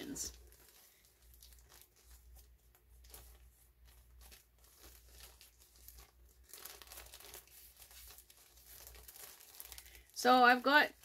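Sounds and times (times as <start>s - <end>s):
bag crinkling and rustling: 0.0s - 11.0s.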